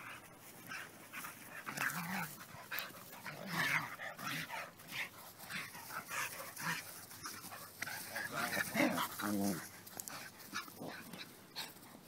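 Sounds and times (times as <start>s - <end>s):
dogs growling and yipping: 0.7s - 12.0s.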